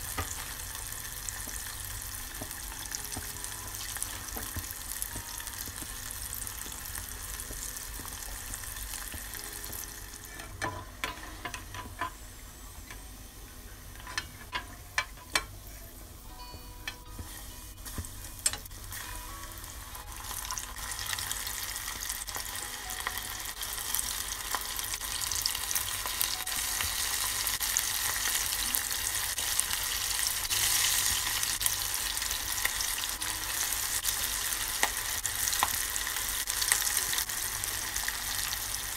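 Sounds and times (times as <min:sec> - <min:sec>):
deep-frying oil sizzling: 0:00.0 - 0:12.4, 0:17.2 - 0:38.9.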